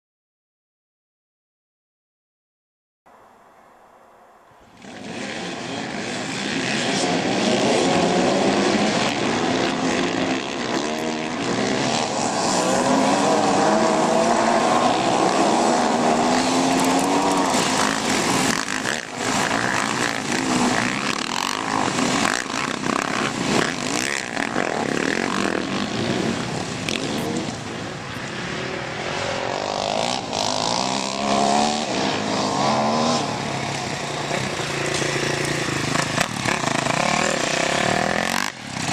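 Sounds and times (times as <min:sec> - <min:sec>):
motorcycle engines revving: 0:04.6 - 0:38.9.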